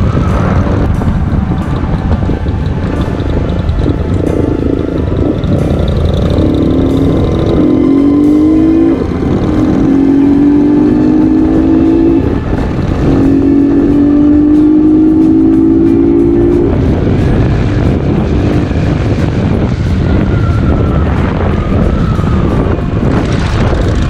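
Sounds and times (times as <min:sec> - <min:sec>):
motorcycle engine accelerating: 0:00.0 - 0:24.0
wind and road noise: 0:00.0 - 0:24.0.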